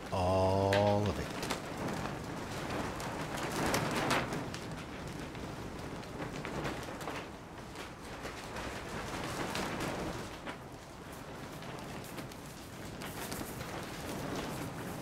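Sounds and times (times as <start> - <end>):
rain on plastic sheeting: 0.0 - 15.0.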